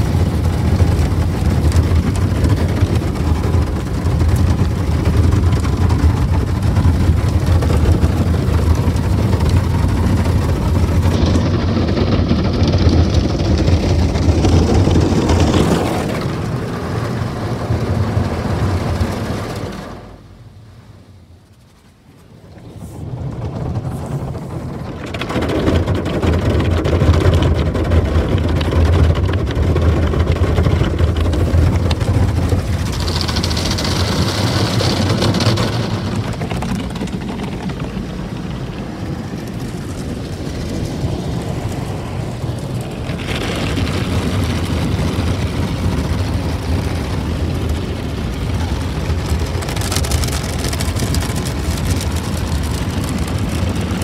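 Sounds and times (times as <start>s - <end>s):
water spraying on car: 0.0s - 54.0s.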